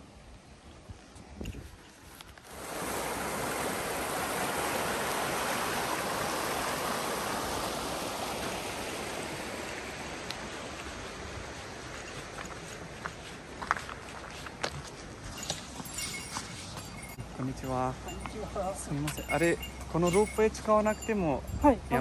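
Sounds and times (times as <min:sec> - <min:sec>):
rushing water hiss: 0:00.0 - 0:21.4.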